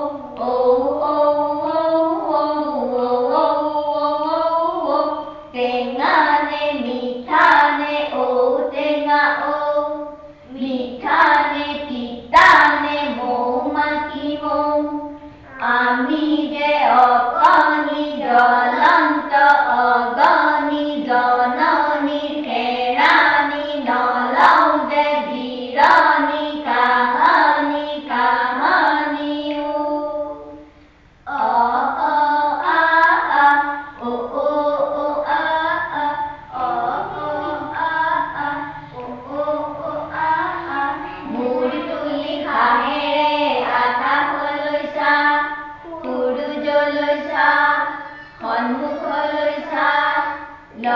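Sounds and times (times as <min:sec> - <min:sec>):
women and children chanting: 0:00.0 - 0:30.7, 0:31.3 - 0:50.9.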